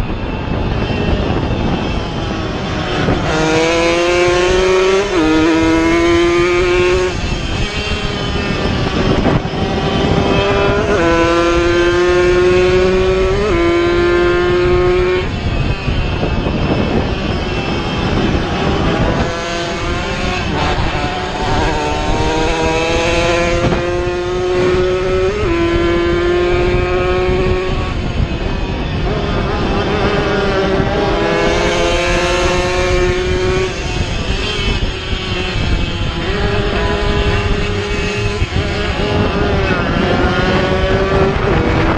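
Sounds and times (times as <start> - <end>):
racing motorcycles shifting gears: 0.0 - 41.9.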